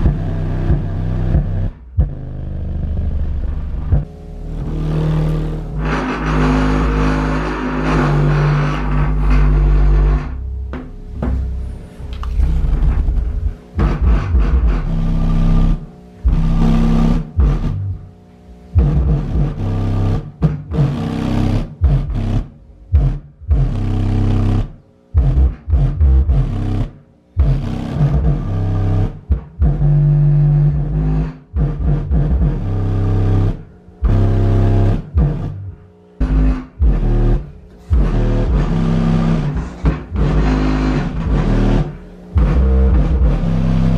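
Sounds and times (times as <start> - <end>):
subwoofer playing bass-heavy music: 0.0 - 43.9.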